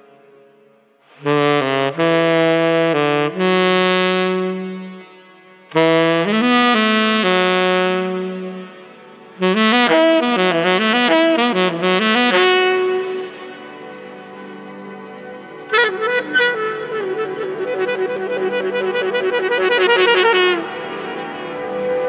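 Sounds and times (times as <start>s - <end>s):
tenor saxophone playing: 1.1s - 22.0s.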